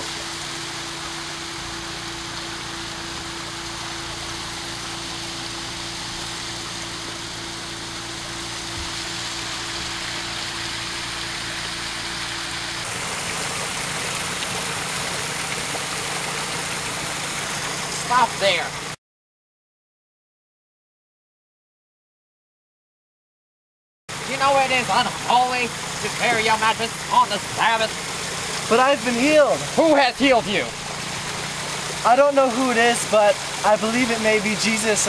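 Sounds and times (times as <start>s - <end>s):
waterfall cascading over rocks: 0.0s - 19.0s, 24.1s - 35.0s.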